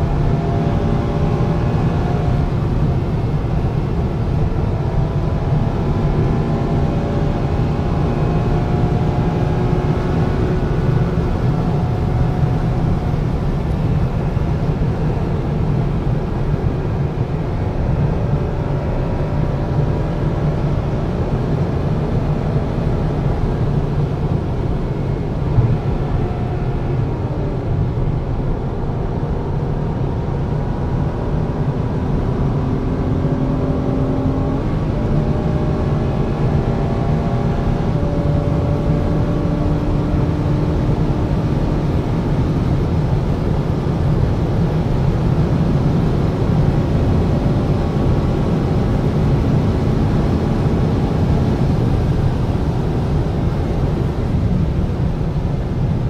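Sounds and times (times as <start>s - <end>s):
car interior road rumble: 0.0s - 56.0s
faint engine tones: 0.0s - 56.0s.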